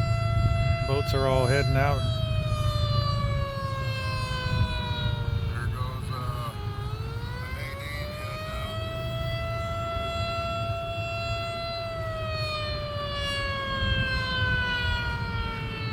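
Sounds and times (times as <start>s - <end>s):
warning siren wailing: 0.0s - 15.9s.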